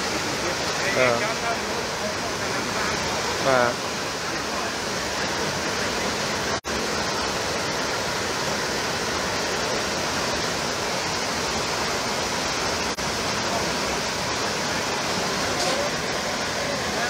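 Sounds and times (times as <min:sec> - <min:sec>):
floodwater rushing in stream: 0:00.0 - 0:17.0.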